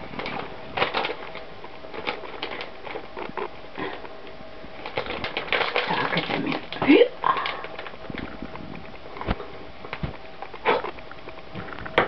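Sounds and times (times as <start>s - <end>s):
plastic packet crinkling: 0.0s - 4.1s, 4.7s - 11.9s.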